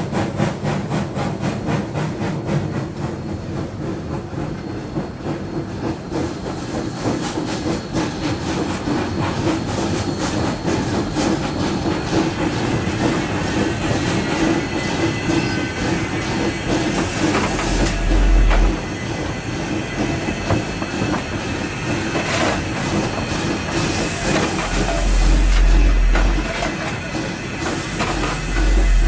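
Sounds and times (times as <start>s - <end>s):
steam hissing: 0.0s - 29.0s
steam locomotive beats: 0.0s - 29.0s
train wheel clatter: 0.0s - 29.0s.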